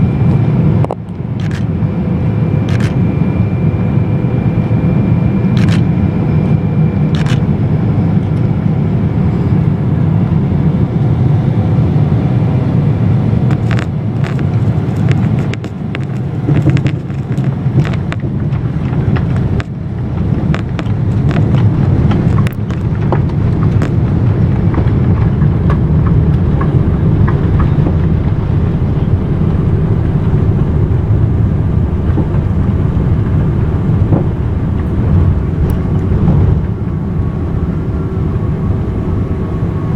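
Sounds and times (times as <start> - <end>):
aircraft engines and rushing air: 0.0 - 39.9.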